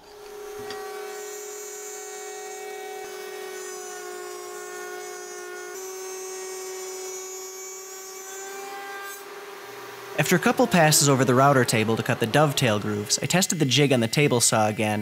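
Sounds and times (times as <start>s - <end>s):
router whining: 0.0s - 7.1s, 7.8s - 15.0s.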